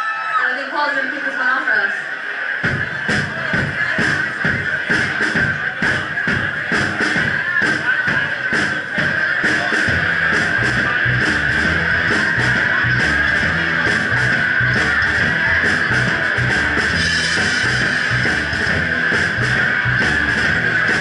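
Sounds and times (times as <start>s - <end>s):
bass guitar: 2.6s - 21.0s
drum kit steady beat: 2.6s - 21.0s.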